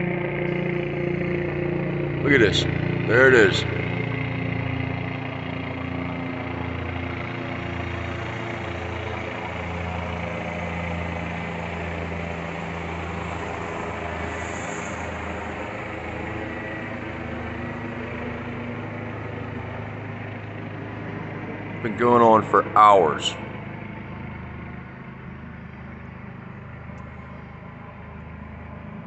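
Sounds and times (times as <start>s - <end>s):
helicopter rotor drone: 0.0s - 29.0s.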